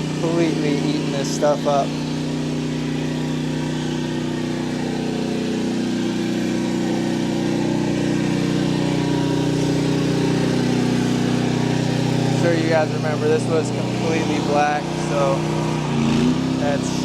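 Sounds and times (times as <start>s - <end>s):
pressure washer engine running: 0.0s - 17.0s.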